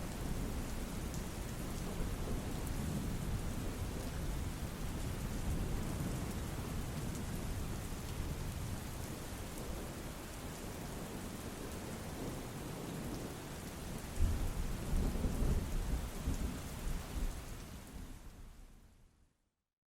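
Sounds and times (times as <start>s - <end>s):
steady rain: 0.0s - 19.1s.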